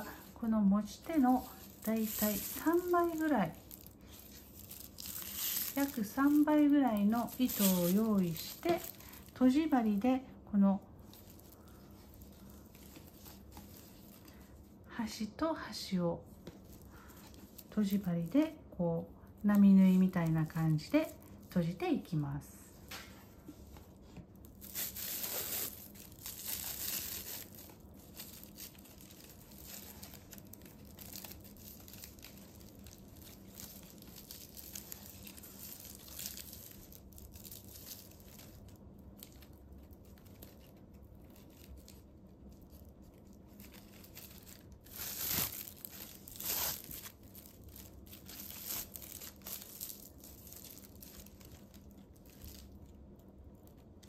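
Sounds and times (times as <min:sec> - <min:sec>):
plastic tape crinkling and rustling: 0:00.0 - 0:54.0.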